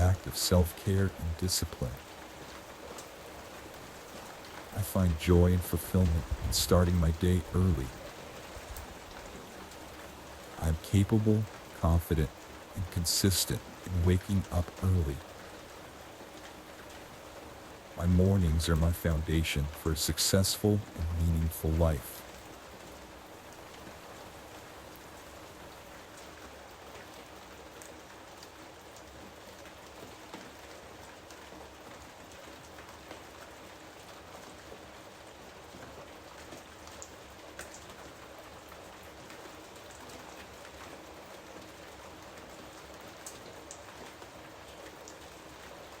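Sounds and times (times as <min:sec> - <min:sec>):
raindrops pattering: 0:00.0 - 0:46.0
steady rainfall: 0:00.0 - 0:46.0.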